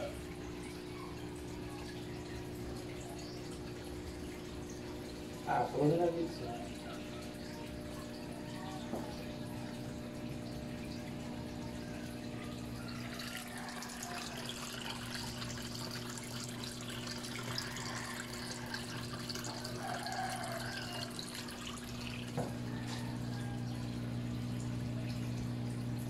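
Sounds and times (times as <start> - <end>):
drips and bubbles: 0.0 - 26.0
water splashing into aquarium: 0.0 - 26.0.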